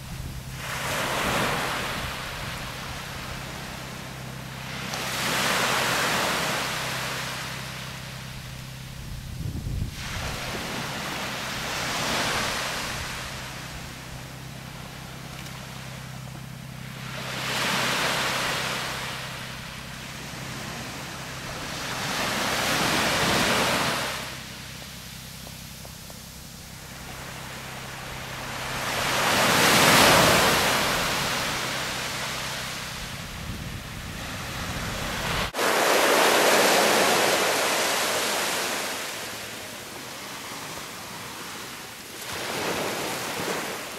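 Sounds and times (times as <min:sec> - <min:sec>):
small waves washing onto beach: 0:00.0 - 0:08.6, 0:09.8 - 0:25.9, 0:26.7 - 0:43.9
steady low hum: 0:00.0 - 0:43.9.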